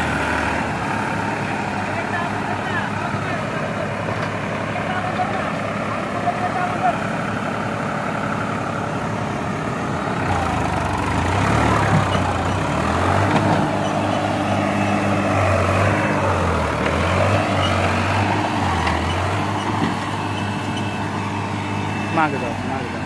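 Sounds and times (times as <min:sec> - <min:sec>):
backhoe diesel engine running: 0:00.0 - 0:23.0
tractor diesel engine under load: 0:00.0 - 0:23.0.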